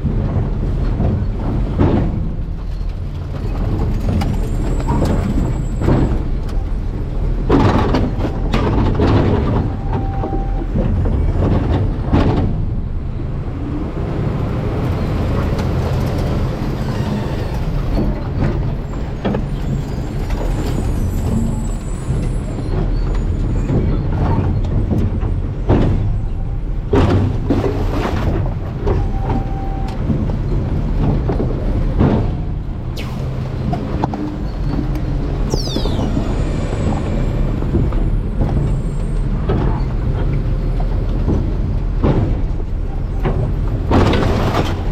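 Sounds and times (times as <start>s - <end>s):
garbage truck engine rumbling: 0.0s - 44.9s.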